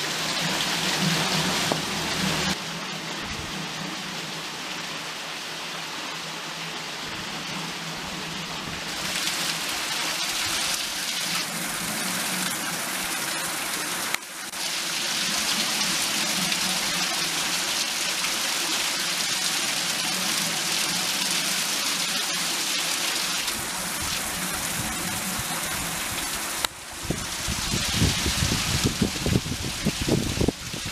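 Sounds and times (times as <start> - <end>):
water rushing through waterwheel: 0.0 - 30.9.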